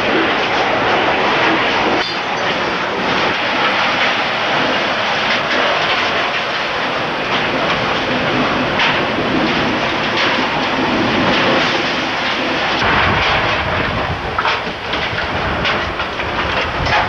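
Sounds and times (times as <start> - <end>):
tornado winds roaring: 0.0 - 17.0.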